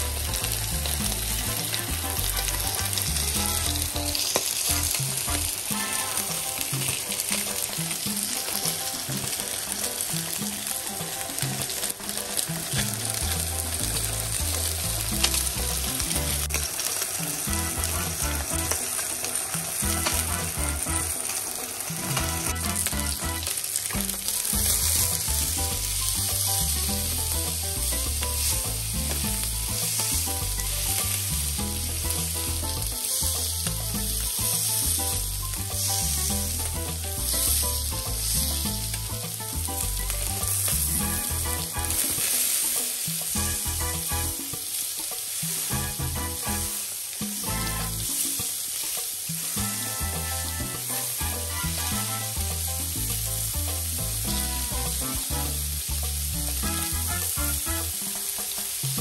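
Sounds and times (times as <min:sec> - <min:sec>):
fish sizzling in a pan: 0:00.0 - 0:59.0.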